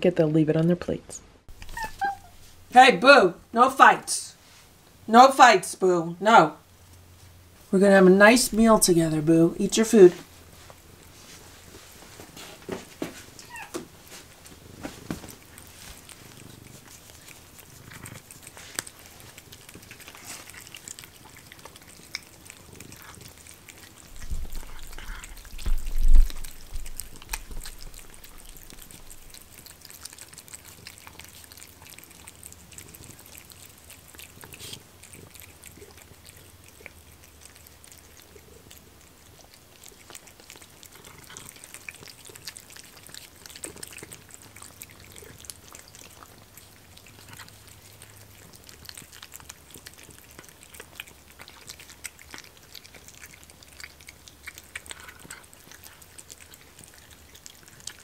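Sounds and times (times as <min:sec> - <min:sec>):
cats chewing and lapping: 0:01.5 - 0:58.0.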